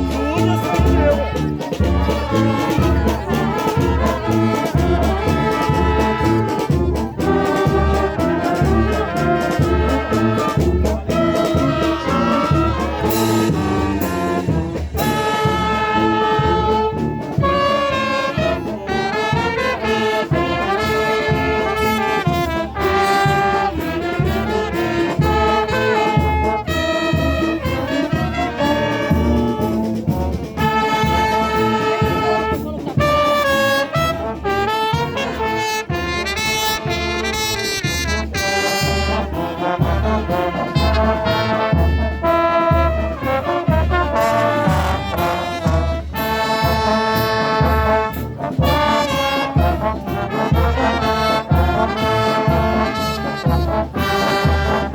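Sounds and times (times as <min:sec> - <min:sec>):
trumpets and trombones playing: 0:00.0 - 0:54.9.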